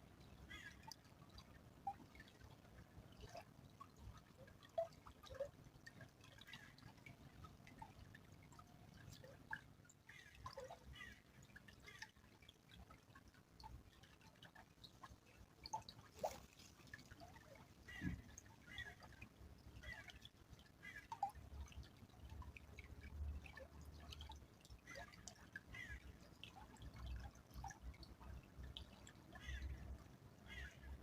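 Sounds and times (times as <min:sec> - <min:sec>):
stream trickling: 0:00.0 - 0:31.0
water drips: 0:00.0 - 0:31.0.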